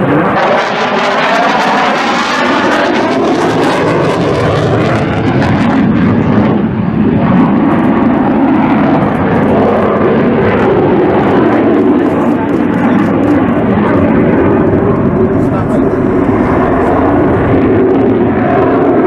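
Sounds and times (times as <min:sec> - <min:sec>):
fighter jet afterburner roar: 0:00.0 - 0:19.0.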